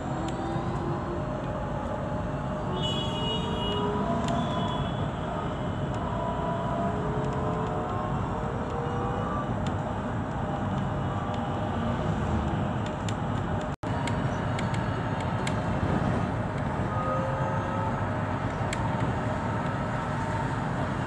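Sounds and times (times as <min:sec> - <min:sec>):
road and tyre rumble: 0:00.0 - 0:21.0.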